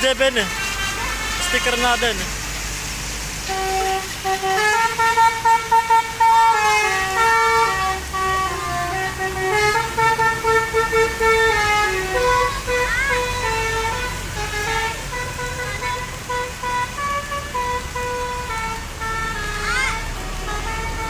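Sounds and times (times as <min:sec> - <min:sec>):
bus horn playing a tune: 0:00.0 - 0:02.6, 0:03.4 - 0:21.0
low engine rumble: 0:00.0 - 0:21.0.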